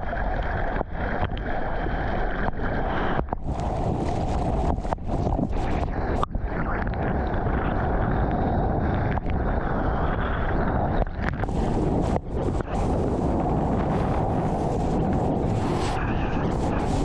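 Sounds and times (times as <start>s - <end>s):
rushing water: 0.0s - 17.0s
wind buffeting microphone: 3.2s - 17.0s.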